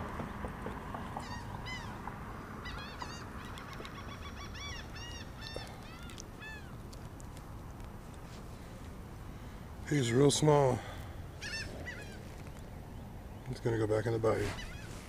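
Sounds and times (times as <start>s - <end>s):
birds chirping rapidly: 0.2s - 6.9s, 9.4s - 15.0s.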